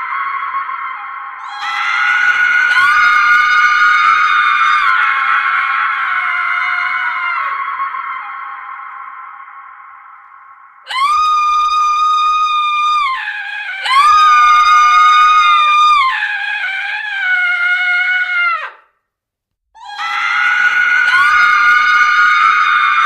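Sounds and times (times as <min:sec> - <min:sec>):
woman screaming: 0:00.0 - 0:08.4, 0:10.9 - 0:18.8, 0:19.8 - 0:23.0.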